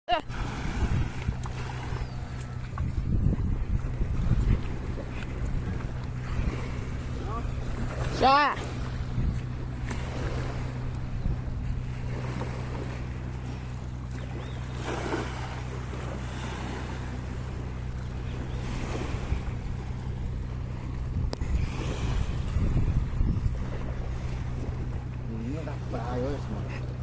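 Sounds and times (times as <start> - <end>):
boat engine running: 0.1 - 27.0
water splashing against hull: 0.1 - 27.0
wind on microphone: 0.2 - 13.5, 14.2 - 25.7.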